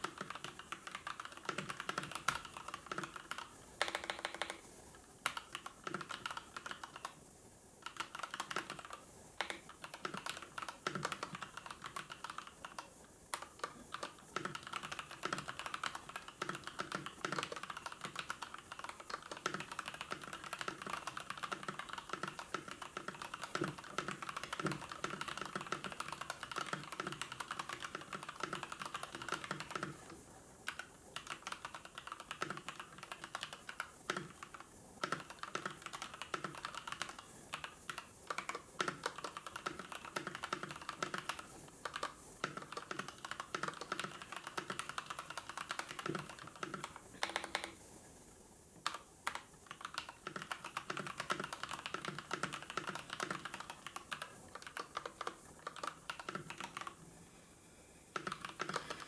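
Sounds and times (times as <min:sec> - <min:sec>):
computer keyboard typing: 0:00.0 - 0:07.2, 0:07.8 - 0:47.9, 0:48.8 - 0:57.1, 0:58.1 - 0:59.0.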